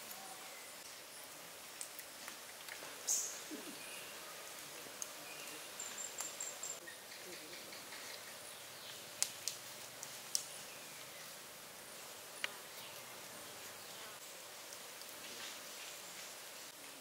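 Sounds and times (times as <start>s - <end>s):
faint insect buzz: 0.0s - 17.0s.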